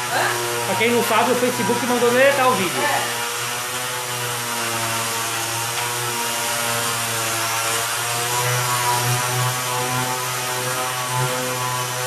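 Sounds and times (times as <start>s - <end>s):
electric sander on wood: 0.0s - 12.0s.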